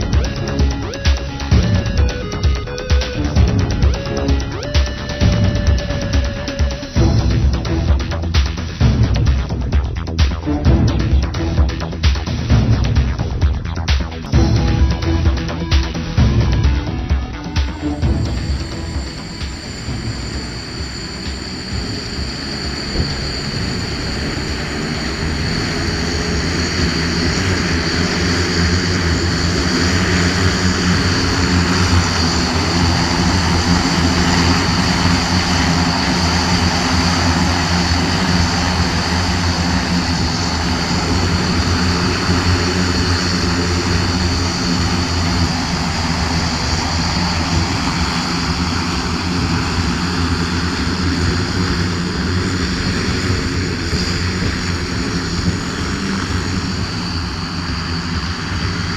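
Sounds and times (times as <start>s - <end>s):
high rotor whine: 0.0s - 58.9s
low engine drone: 0.0s - 58.9s.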